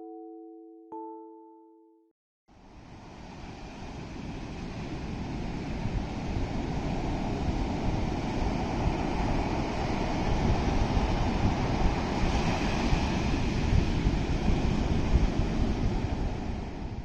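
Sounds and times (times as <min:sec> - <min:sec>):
wind buffeting microphone: 0:02.8 - 0:17.0.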